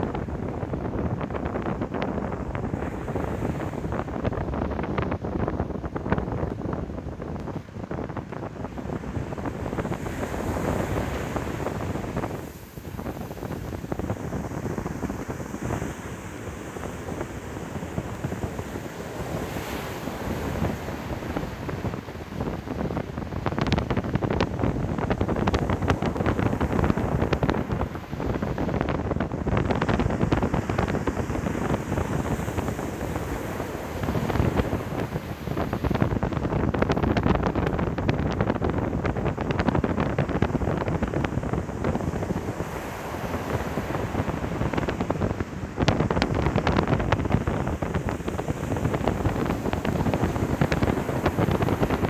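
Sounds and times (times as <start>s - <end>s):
wind buffeting microphone: 0.0s - 52.0s
sea waves breaking on beach: 8.0s - 52.0s.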